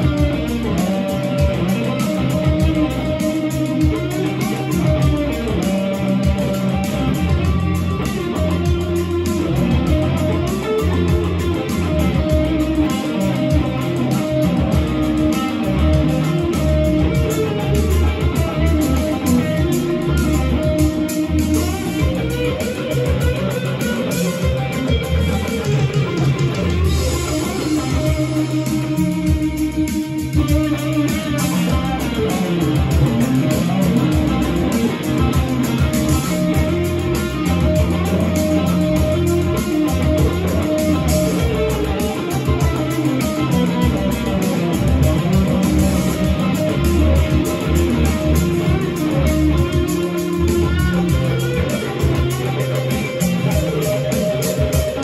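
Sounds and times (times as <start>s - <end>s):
backing track with bass and beat: 0.0s - 55.0s
electric guitar improvising melody: 0.0s - 55.0s.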